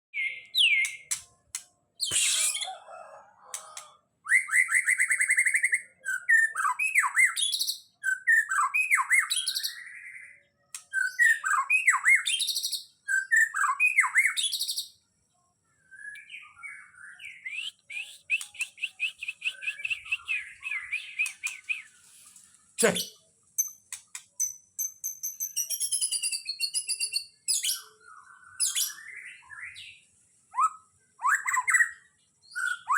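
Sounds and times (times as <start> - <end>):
songbird singing trills and whistles: 0.1 - 1.2, 2.0 - 2.8, 3.8 - 15.0, 15.8 - 22.1, 22.8 - 32.9.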